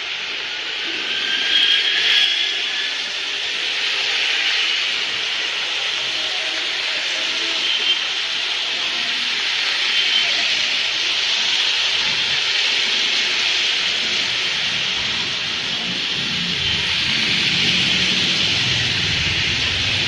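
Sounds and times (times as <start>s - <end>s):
tyres hissing on wet road: 2.6s - 20.0s.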